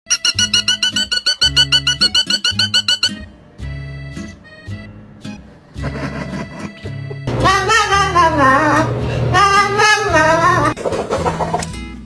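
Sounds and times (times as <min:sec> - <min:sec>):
background music with bass line: 0:00.4 - 0:12.0.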